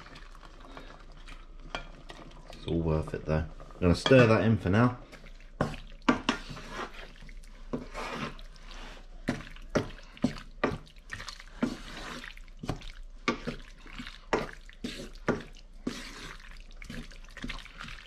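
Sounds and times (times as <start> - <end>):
pasta squelching in creamy sauce: 0.0 - 18.0.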